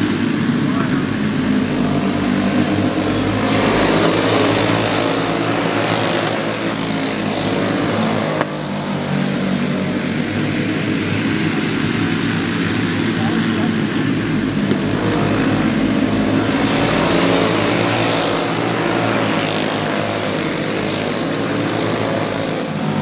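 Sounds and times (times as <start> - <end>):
go-kart engines racing: 0.0 - 23.0.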